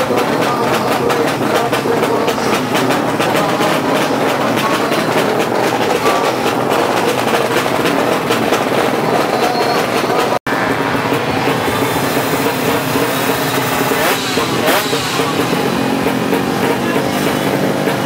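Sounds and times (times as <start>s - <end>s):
motorcycle engines rattling loudly: 0.0s - 18.0s.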